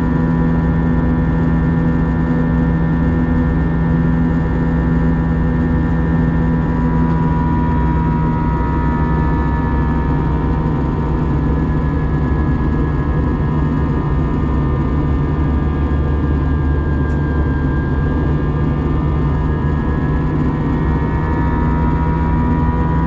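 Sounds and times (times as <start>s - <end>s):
airflow rumble: 0.0s - 23.0s
jet engine drone: 0.0s - 23.0s
whining tones: 3.4s - 23.0s.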